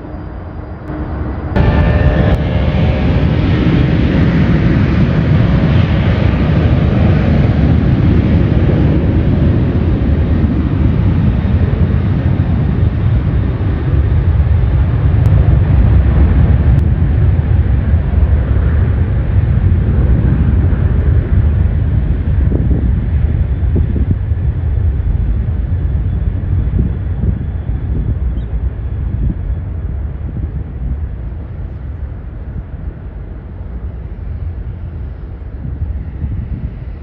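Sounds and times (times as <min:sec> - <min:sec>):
jet engines roaring past: 0:00.0 - 0:37.0.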